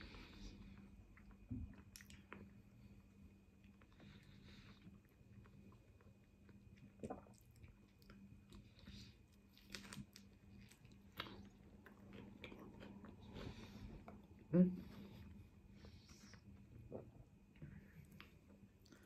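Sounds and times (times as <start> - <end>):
chewing and wet mouth sounds: 0.0 - 19.0.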